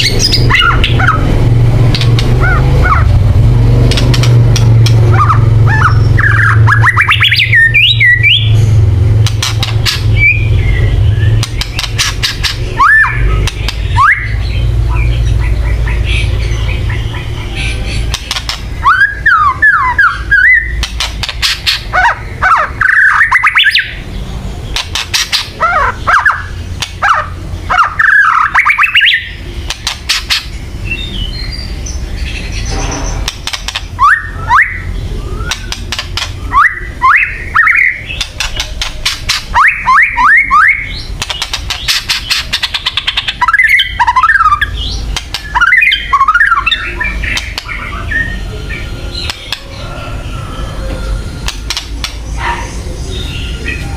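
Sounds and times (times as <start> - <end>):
songbird harsh rattling calls: 0.0 - 49.8.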